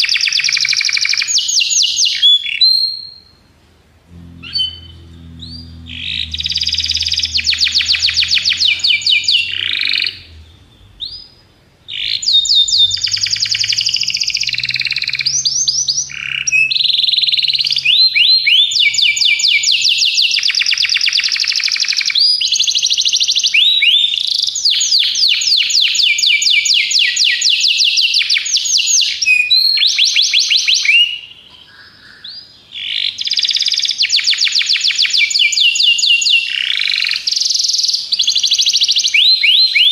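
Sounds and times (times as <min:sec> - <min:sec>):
canary singing trills: 0:04.1 - 0:39.9.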